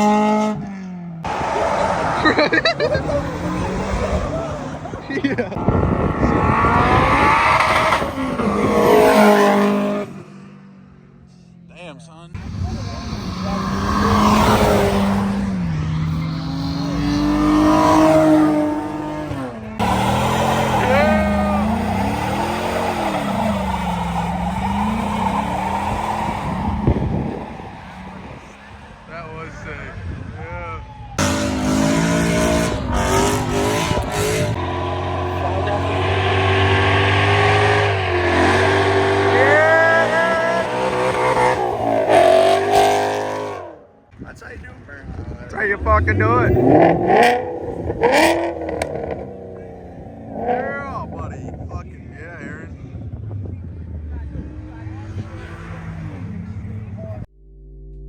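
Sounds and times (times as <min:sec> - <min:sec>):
car engine revving: 0:00.0 - 0:44.1, 0:45.5 - 0:58.0.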